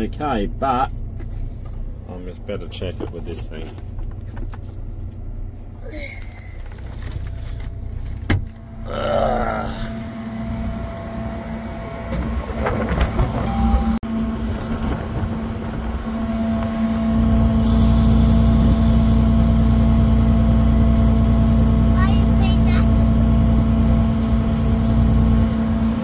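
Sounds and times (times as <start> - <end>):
harvester engine droning: 0.0 - 26.0.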